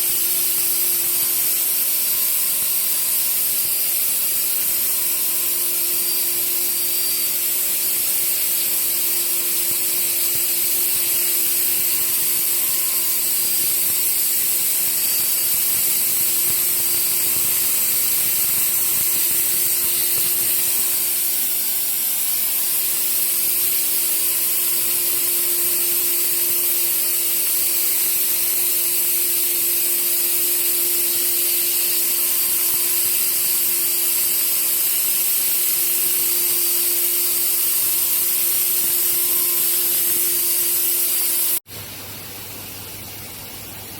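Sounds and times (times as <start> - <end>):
woodworking machine hissing: 0.0 - 41.9.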